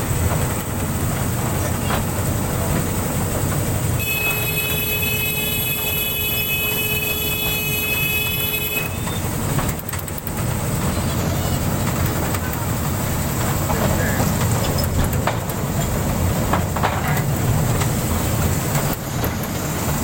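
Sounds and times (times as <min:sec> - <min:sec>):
toy train rumbling: 0:00.0 - 0:20.0.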